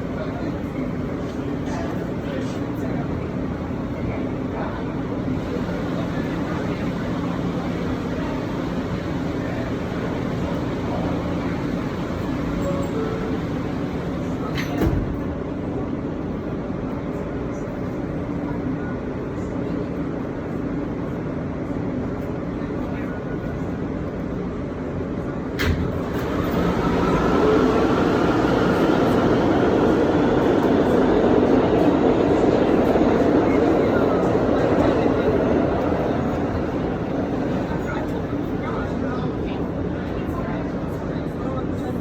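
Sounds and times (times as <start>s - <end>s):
subway car rumble and hum: 0.0s - 42.0s.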